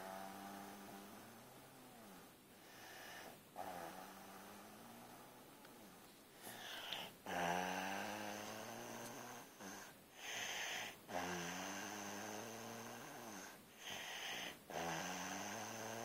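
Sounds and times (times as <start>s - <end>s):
person snoring: 0.0s - 5.4s, 6.5s - 16.0s.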